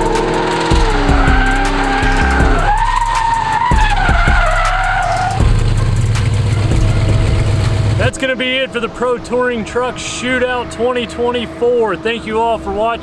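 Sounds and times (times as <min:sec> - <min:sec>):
tires squealing: 0:00.0 - 0:13.0
truck engine running: 0:00.0 - 0:13.0.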